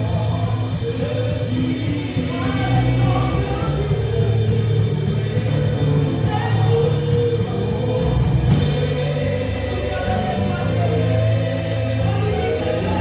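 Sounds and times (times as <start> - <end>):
faint singing: 0.0 - 13.0
worship band music: 0.0 - 13.0.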